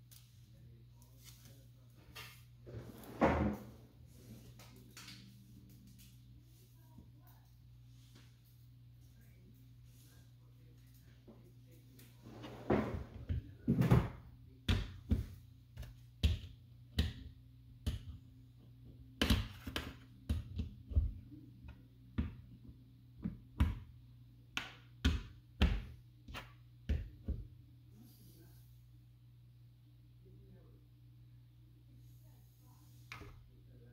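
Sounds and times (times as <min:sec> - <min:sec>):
faint steady hum: 0:00.0 - 0:33.9.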